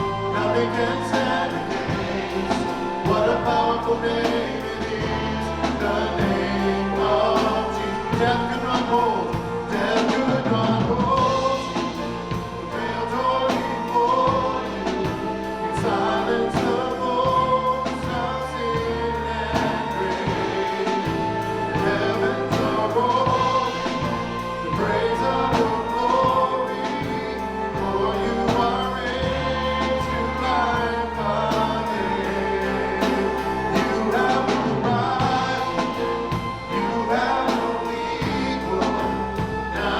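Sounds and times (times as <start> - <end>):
group of singers: 0.0 - 39.9
held bass notes: 0.0 - 39.9
steady drum beat: 0.0 - 39.9.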